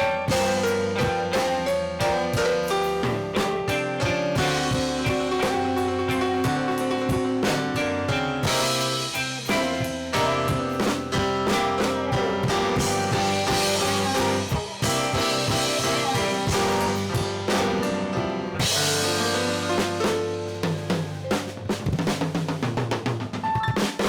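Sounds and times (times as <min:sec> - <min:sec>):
electric guitar: 0:00.0 - 0:22.0
bass guitar: 0:00.0 - 0:23.2
drum kit: 0:00.0 - 0:24.0
keyboards: 0:00.0 - 0:24.0.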